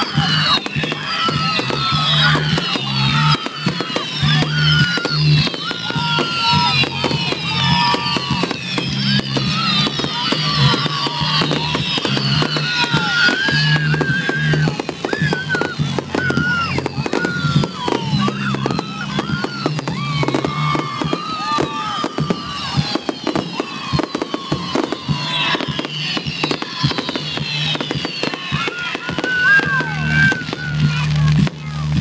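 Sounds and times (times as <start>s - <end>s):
firework crackling and popping: 0.0s - 32.0s
firework whistles falling: 0.0s - 32.0s.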